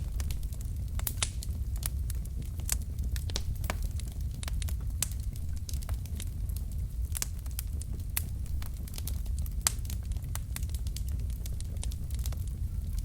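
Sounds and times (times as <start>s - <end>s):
logs crackling and popping: 0.0s - 13.0s
low rumble of flames: 0.0s - 13.0s.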